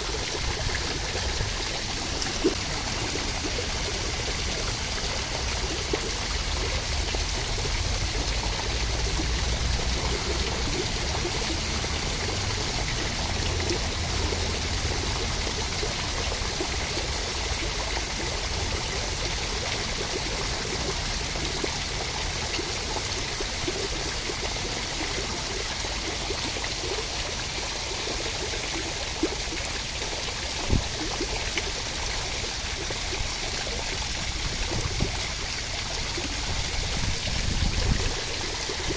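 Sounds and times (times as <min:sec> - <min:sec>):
water rushing and trickling: 0:00.0 - 0:38.9.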